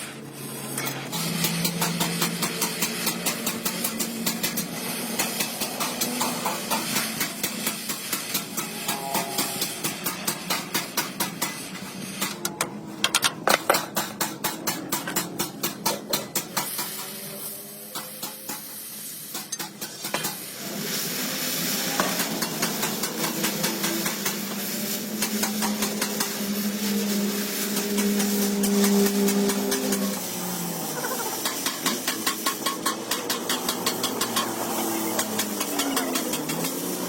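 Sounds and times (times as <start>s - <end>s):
steady hiss: 0.0s - 12.5s, 13.5s - 37.0s
rapid metal strikes: 1.1s - 17.3s, 21.9s - 37.0s.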